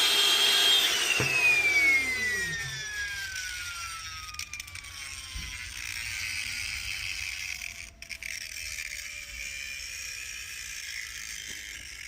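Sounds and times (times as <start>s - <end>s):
turbine rotor whining: 0.0s - 12.0s.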